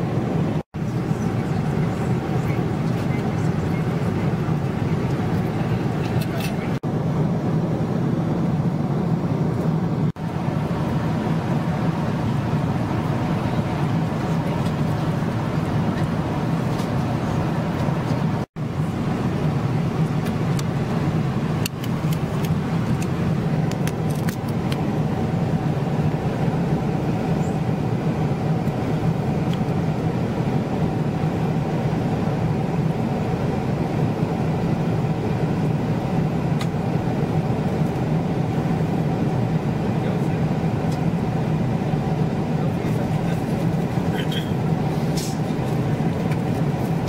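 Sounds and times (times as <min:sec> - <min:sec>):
airplane cabin roar: 0:00.0 - 0:47.0.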